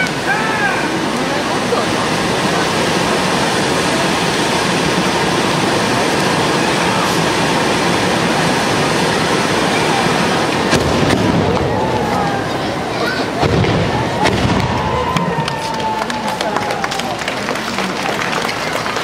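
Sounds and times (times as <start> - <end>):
fireworks rushing hiss: 0.0 - 17.0.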